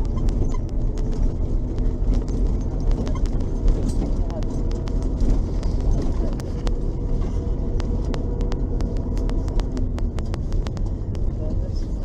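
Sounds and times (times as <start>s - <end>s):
bus engine rumbling: 0.0s - 12.0s
sharp clicks and rattles: 0.0s - 12.0s.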